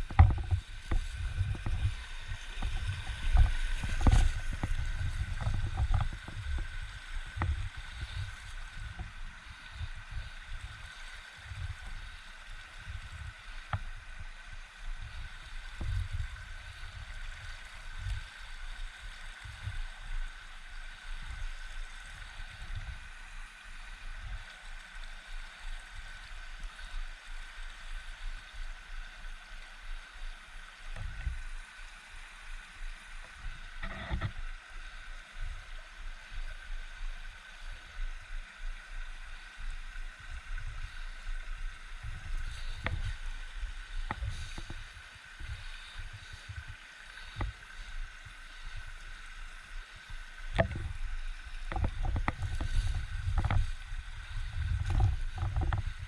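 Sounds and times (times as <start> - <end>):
wind and movement rumble: 0.0 - 24.4, 30.7 - 49.0, 49.6 - 56.0.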